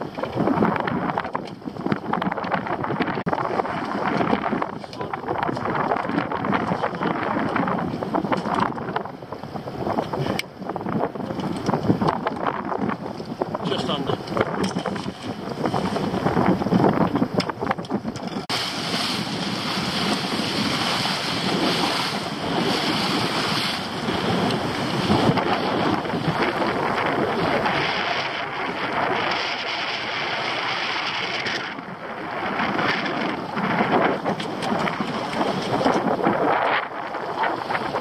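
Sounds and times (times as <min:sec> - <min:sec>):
water washing along boat hull: 0:00.0 - 0:38.0
wind on microphone: 0:00.0 - 0:38.0.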